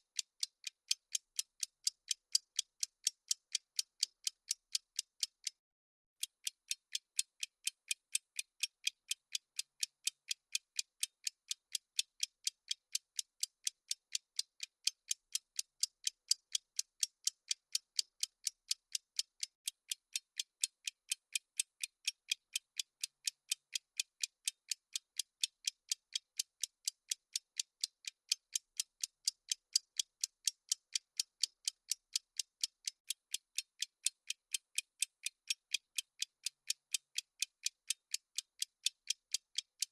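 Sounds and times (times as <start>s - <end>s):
clock ticking: 0.0s - 5.5s, 6.2s - 39.9s.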